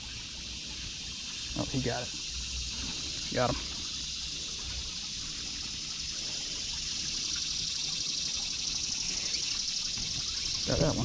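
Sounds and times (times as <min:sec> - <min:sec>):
high-pitched outdoor hiss: 0:00.0 - 0:11.0.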